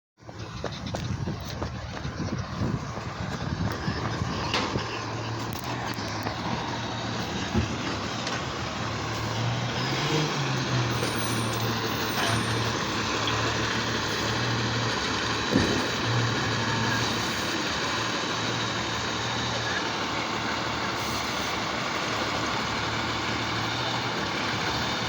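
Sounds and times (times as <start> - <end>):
diesel truck engine running: 0.2 - 25.0.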